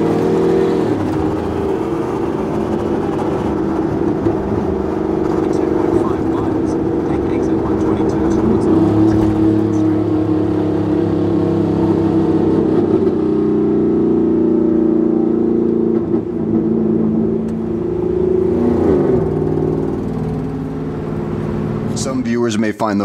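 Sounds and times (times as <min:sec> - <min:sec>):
vehicle engine from inside cabin: 0:00.0 - 0:22.2.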